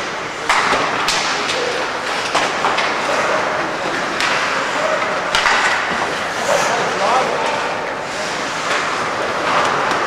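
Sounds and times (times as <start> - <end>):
skates scraping on ice: 1.5 - 10.0.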